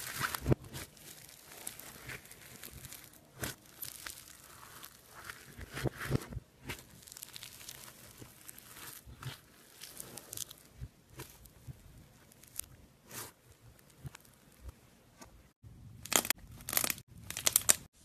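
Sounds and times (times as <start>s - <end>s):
foam slime crackling: 0.0s - 14.6s, 16.0s - 17.9s.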